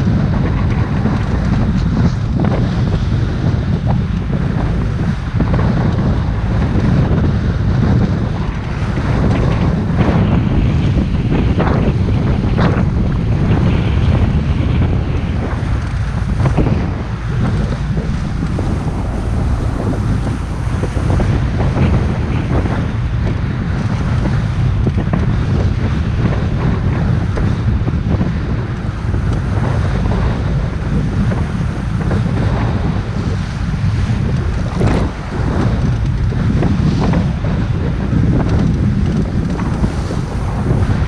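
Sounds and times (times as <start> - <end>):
boat motor rumble: 0.0 - 41.0
water rushing past hull: 0.0 - 41.0
wind rushing over microphone: 0.0 - 41.0.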